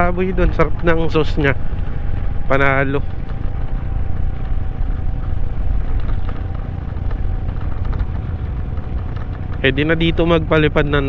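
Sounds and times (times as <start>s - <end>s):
scooter engine humming: 0.0s - 11.0s.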